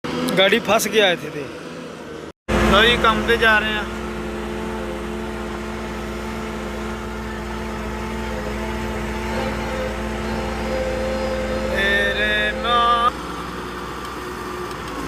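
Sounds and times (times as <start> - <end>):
vehicle engine running: 1.8 - 15.0.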